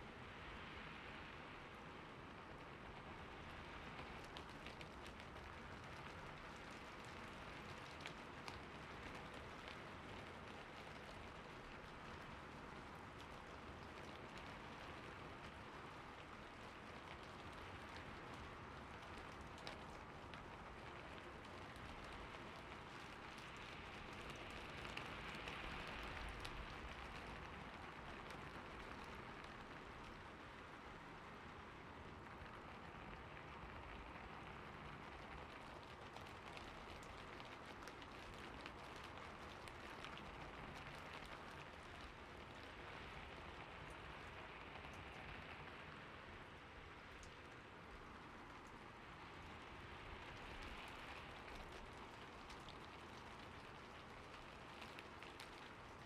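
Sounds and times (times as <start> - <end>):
falling water patter: 2.6 - 56.0.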